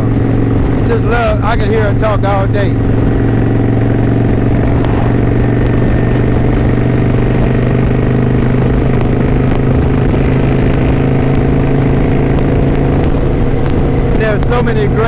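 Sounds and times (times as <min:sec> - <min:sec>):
motorcycle engine cruising: 0:00.0 - 0:15.0
road and wind noise: 0:00.0 - 0:15.0.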